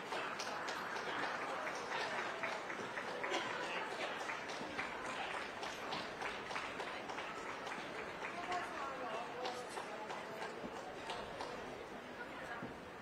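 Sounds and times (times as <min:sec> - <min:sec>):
spectators applauding: 0:00.0 - 0:11.9
crowd noise: 0:00.0 - 0:13.0.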